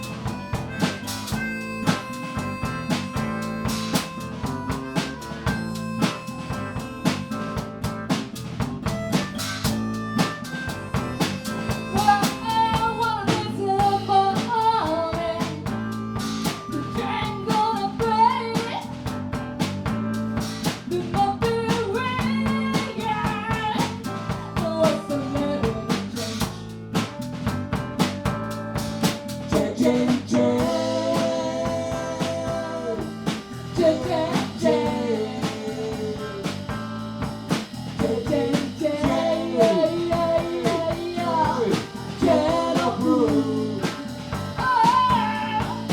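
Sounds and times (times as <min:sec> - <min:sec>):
live blues band playing: 0:00.0 - 0:45.9.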